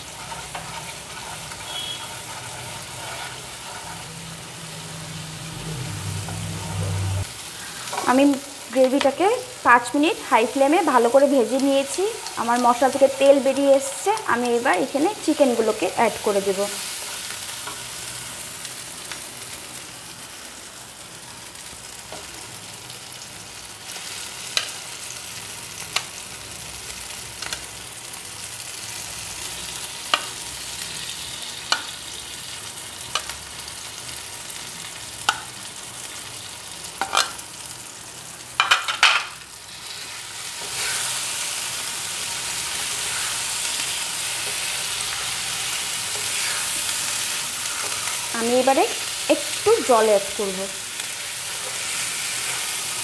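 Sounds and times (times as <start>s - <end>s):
gravy sizzling in oil: 0.0s - 53.0s.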